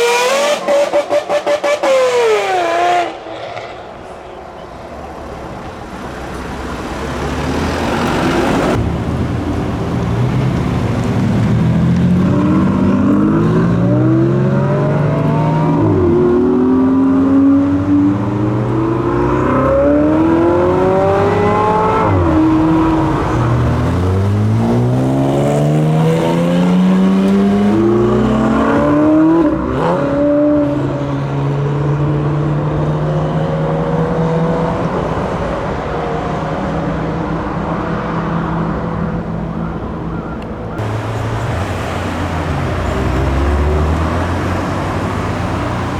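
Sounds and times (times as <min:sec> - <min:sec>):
car engine accelerating: 0:05.7 - 0:45.9.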